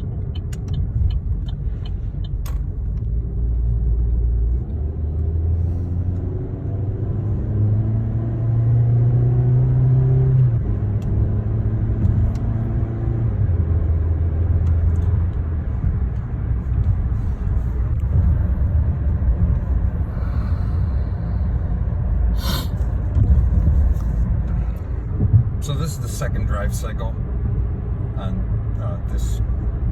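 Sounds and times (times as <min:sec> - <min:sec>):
car engine shifting gears: 0:00.0 - 0:29.9
road rumble: 0:00.0 - 0:29.9.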